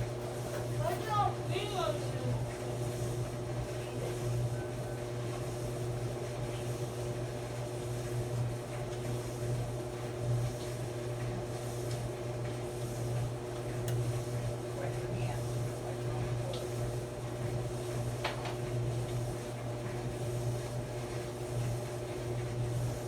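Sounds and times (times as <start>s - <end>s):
clothes dryer motor hum: 0.0s - 23.0s.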